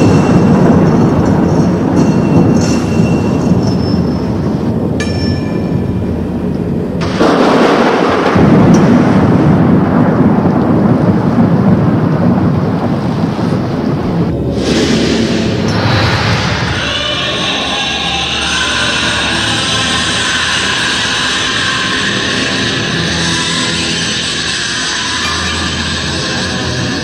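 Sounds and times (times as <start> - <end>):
thunder crash: 0.0 - 27.0
thunder rumbling: 0.0 - 27.0.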